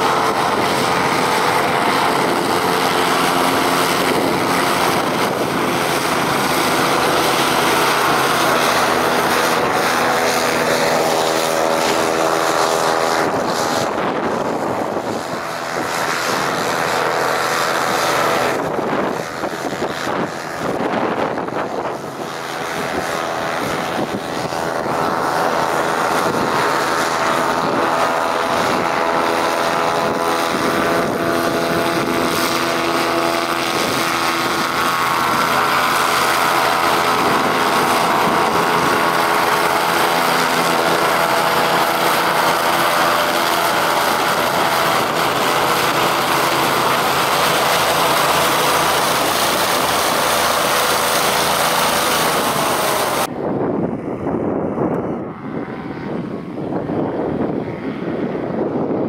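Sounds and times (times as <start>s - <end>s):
hovercraft engines droning: 0.0s - 59.0s.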